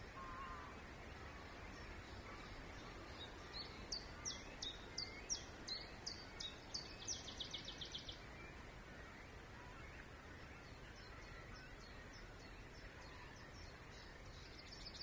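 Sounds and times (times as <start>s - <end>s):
songbird singing and trilling: 0.0s - 15.0s.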